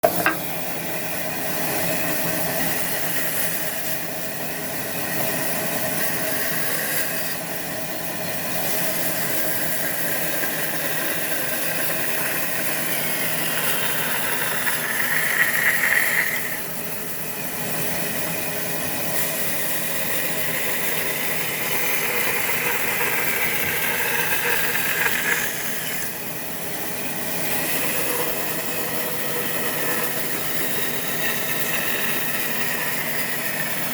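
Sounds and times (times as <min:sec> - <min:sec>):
power saw cutting wood: 0:00.0 - 0:00.8, 0:01.4 - 0:33.9.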